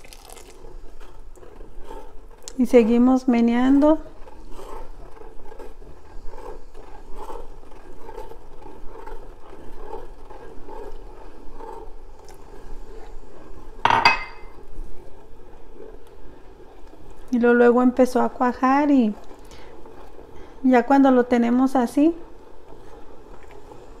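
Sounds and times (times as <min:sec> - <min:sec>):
spoon stirring milk in pot: 0:00.0 - 0:24.0.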